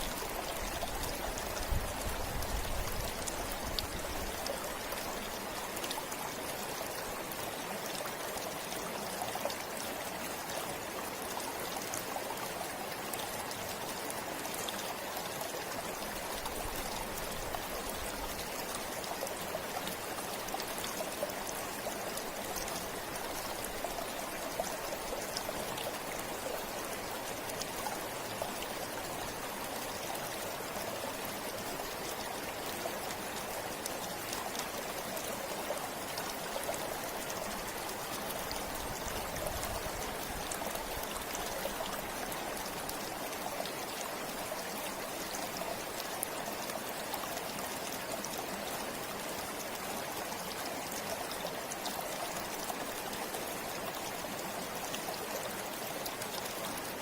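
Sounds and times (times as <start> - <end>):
small splashes and trickles: 0.0 - 57.0
stream water rushing: 0.0 - 57.0.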